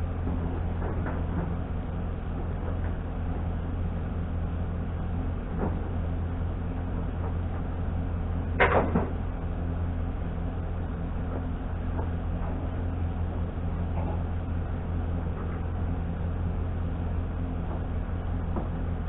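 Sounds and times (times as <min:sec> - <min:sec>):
low engine-like drone: 0:00.0 - 0:19.0.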